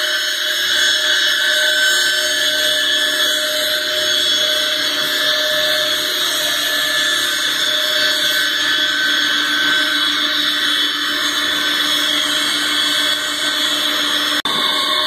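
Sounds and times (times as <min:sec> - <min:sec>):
metal lathe cutting metal: 0:00.0 - 0:15.0.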